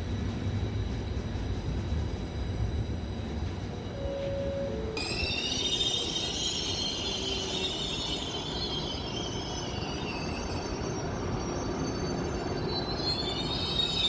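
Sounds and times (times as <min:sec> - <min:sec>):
train rumbling: 0:00.0 - 0:14.0
train wheels squealing: 0:00.0 - 0:14.0.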